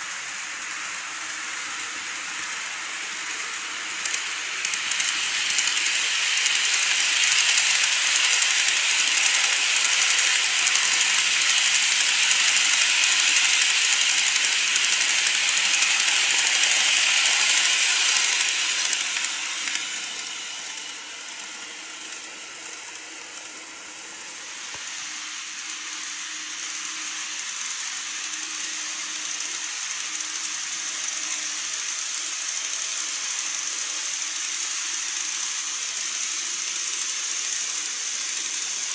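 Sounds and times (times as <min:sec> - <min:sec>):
model train wheels whirring: 0:00.0 - 0:38.9.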